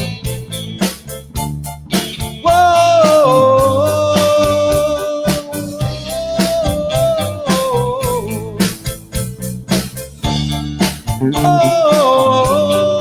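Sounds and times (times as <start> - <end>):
drum hits: 0.0 - 12.8
bass line: 0.0 - 13.0
held melody line: 0.0 - 13.0
live band music: 0.0 - 13.0.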